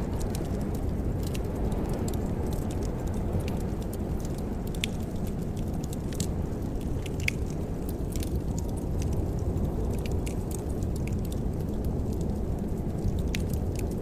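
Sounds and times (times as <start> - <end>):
steady low rumble: 0.0 - 14.0
wood fire crackling: 0.0 - 14.0.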